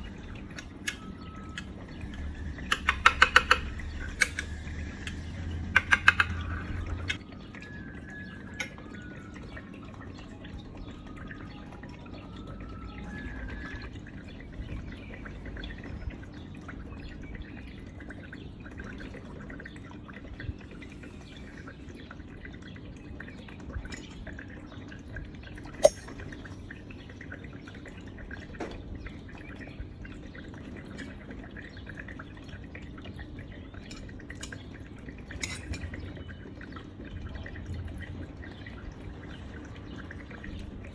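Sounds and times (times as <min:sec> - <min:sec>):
soft wet squelches: 0:00.0 - 0:40.9.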